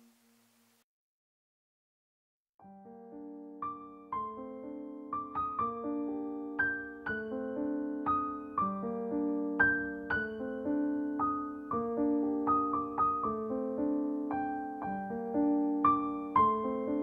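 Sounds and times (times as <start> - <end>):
gentle piano piece: 2.6 - 17.0.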